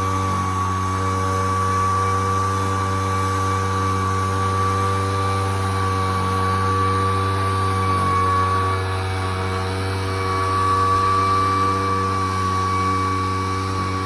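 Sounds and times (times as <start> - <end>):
leaf blower engine with whine: 0.0 - 14.0.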